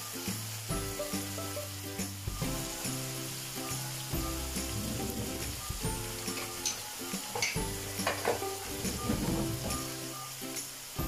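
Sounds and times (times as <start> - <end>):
background music: 0.0 - 11.0
food sizzling in oil: 0.0 - 11.0.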